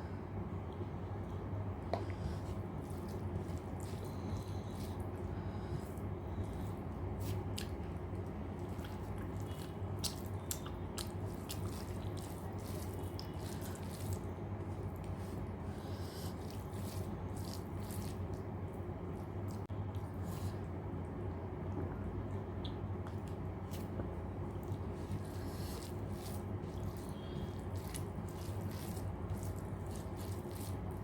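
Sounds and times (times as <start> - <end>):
steady low hum: 0.0 - 31.0
chewing and wet mouth sounds: 0.7 - 20.7, 22.6 - 31.0.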